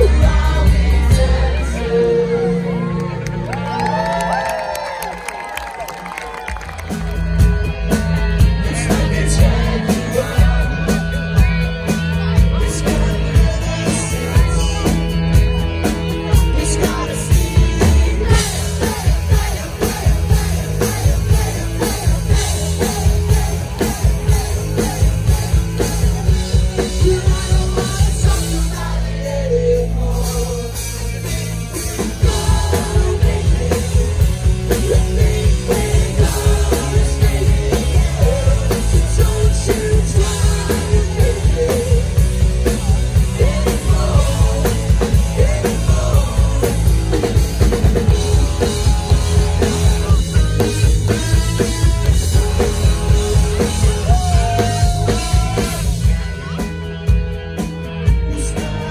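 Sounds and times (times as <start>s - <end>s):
driving drum beat: 0.0s - 1.8s, 3.8s - 58.9s
person singing: 0.0s - 3.2s, 8.4s - 56.7s, 58.0s - 58.9s
live rock band playing: 0.0s - 58.9s.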